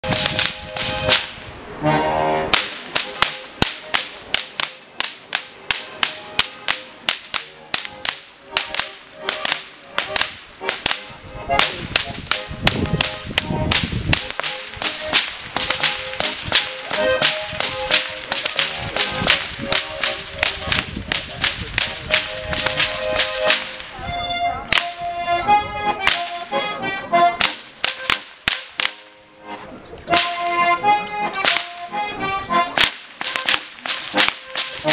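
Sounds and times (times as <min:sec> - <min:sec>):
accordion playing a tune: 0:00.0 - 0:05.0, 0:05.6 - 0:34.9
whips cracking: 0:00.1 - 0:01.4, 0:02.5 - 0:23.9, 0:24.7 - 0:25.0, 0:26.0 - 0:26.4, 0:27.4 - 0:29.1, 0:30.1 - 0:30.6, 0:31.2 - 0:31.8, 0:32.6 - 0:34.9.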